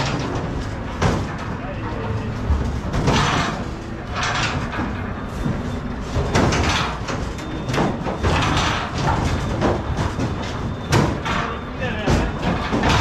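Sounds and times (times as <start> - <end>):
hooves clattering on metal floor: 0.0 - 13.0.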